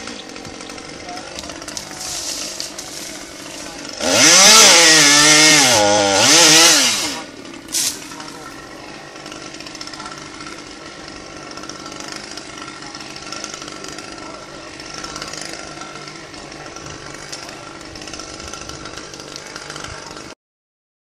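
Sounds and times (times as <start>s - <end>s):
chainsaw running: 0.0s - 20.4s.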